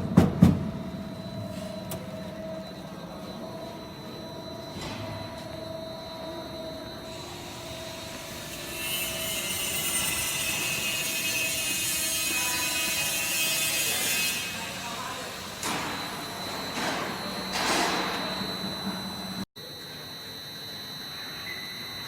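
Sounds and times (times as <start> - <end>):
machine humming with steady tones: 0.0 - 22.0.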